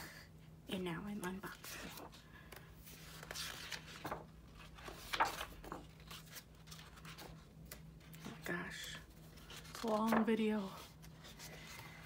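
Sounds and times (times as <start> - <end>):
faint steady hum: 0.0 - 12.0
pages turning: 1.5 - 8.5, 9.1 - 12.0.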